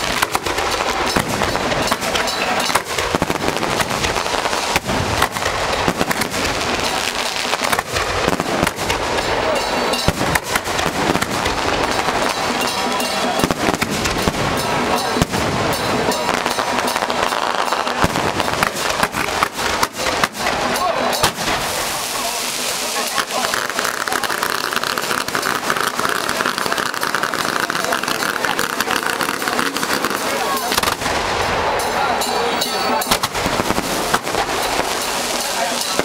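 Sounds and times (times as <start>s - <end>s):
firecrackers crackling: 0.0s - 36.0s.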